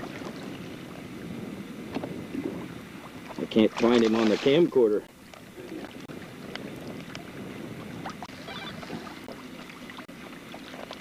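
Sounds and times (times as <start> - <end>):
wind on microphone: 0.0 - 9.4
small waves lapping against boat hull: 0.0 - 11.0.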